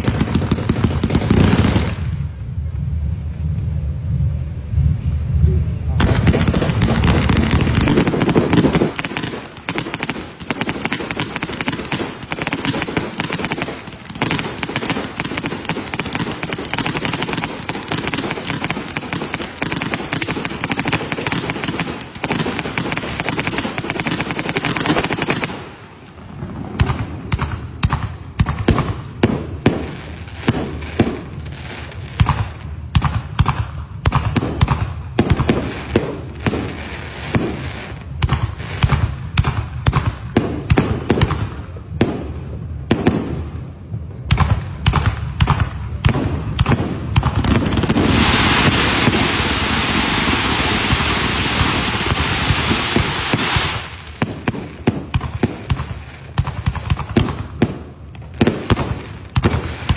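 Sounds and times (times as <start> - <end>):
firework bangs: 0.0 - 3.2, 5.9 - 59.9
firework crackling: 0.0 - 43.4, 46.0 - 59.9.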